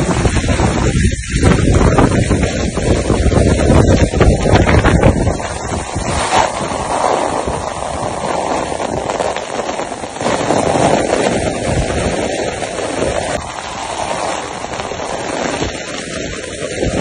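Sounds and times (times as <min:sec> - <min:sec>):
torrential rain pouring: 0:00.0 - 0:17.0
wind buffeting the microphone: 0:00.0 - 0:17.0.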